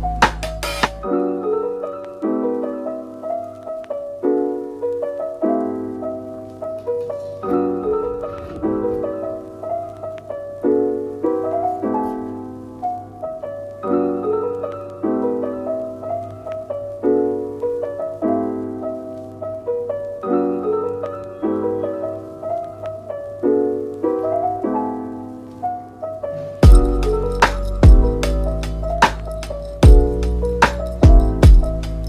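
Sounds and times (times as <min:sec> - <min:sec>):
soft piano chords: 0:00.0 - 0:32.0.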